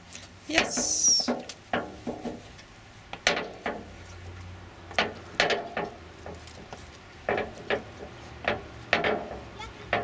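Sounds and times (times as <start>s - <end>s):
shoes knocking on metal ladder rungs: 0.5s - 4.1s, 4.9s - 10.0s.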